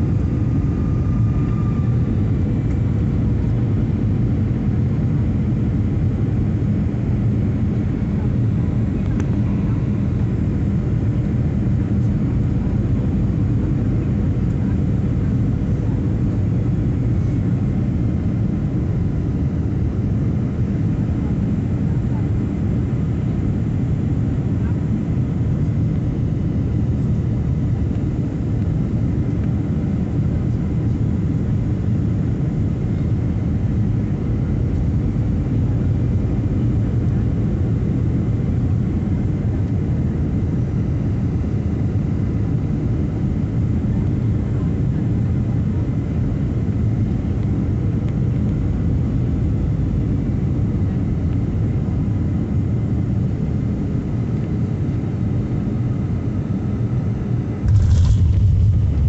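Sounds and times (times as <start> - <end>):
engine and airflow rumble: 0.0 - 59.0.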